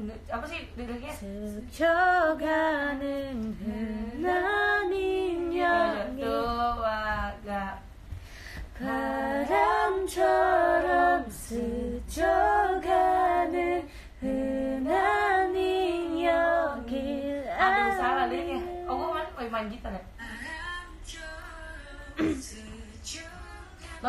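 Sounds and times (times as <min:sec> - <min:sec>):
woman singing unaccompanied: 0:00.0 - 0:08.0, 0:08.7 - 0:24.0.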